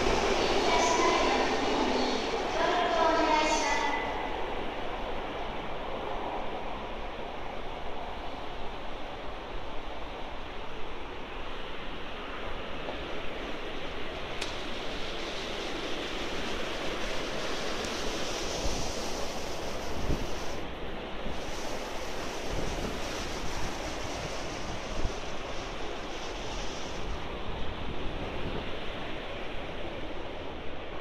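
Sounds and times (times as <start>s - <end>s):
subway station rushing roar: 0.0s - 31.0s.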